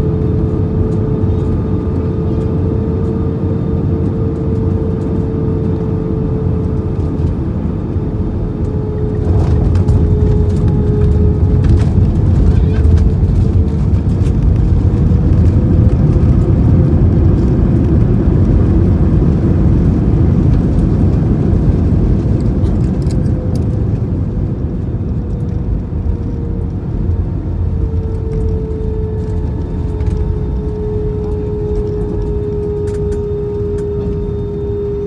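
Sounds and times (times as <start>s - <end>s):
aircraft engines and wheels rumbling: 0.0s - 35.0s
engine whine: 0.0s - 35.0s.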